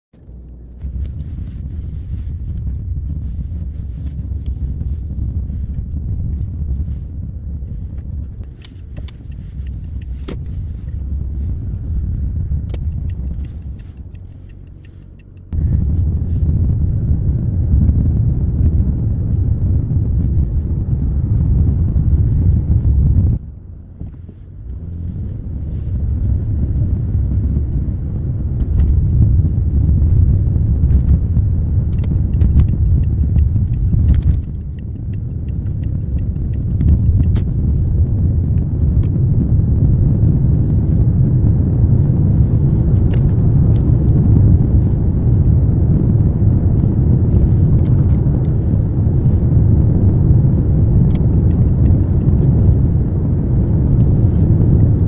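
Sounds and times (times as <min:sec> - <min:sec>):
car rumbling on the move: 0:00.1 - 0:55.0.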